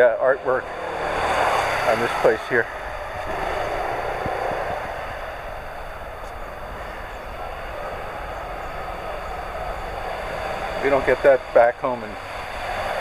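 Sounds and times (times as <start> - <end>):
traffic hum: 0.0 - 13.0
vehicle passing close by: 0.0 - 13.0.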